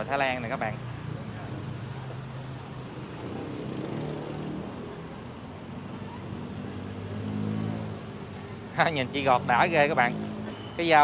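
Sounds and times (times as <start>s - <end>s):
vehicle engines humming: 0.0s - 11.0s.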